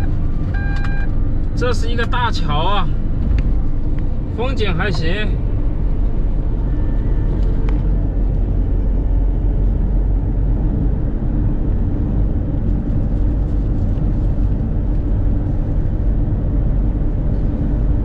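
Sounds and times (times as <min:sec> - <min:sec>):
tyres on the road: 0:00.0 - 0:18.0
vehicle engine rumble: 0:00.0 - 0:18.0.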